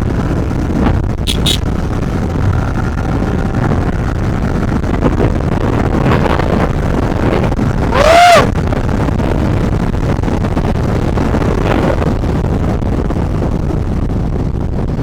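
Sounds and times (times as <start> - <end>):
wind noise: 0.0 - 15.0.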